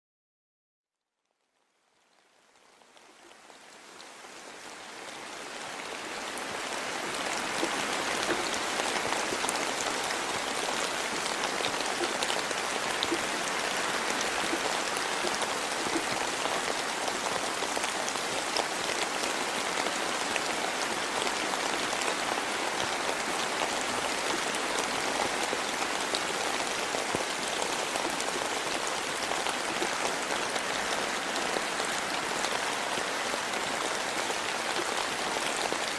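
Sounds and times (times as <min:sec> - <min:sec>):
rain falling in forest: 0:00.9 - 0:35.9.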